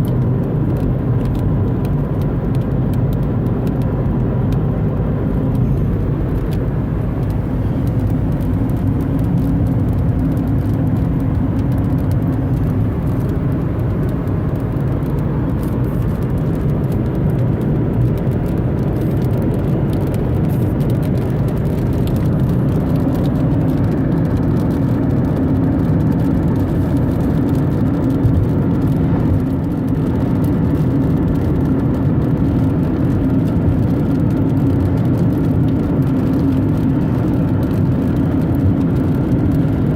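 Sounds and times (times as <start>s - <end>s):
car engine cruising: 0.0s - 39.9s
tyres on pavement: 0.1s - 32.3s.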